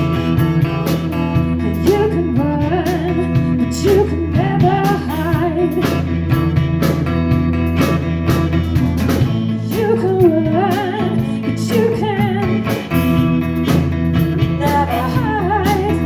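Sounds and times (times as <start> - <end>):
bending lead melody: 0.0 - 16.0
blues band playing: 0.0 - 16.0
drums steady beat: 0.0 - 16.0
sustained bass: 0.0 - 16.0.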